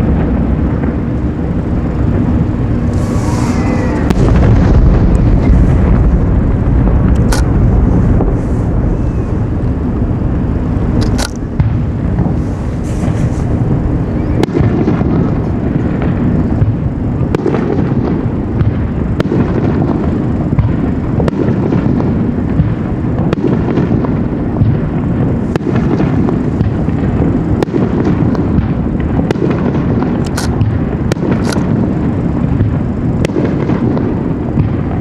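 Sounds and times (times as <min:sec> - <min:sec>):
fireworks booming: 0:00.0 - 0:35.0
fireworks crackling hiss: 0:00.0 - 0:35.0
fireworks sharp cracks: 0:00.0 - 0:35.0.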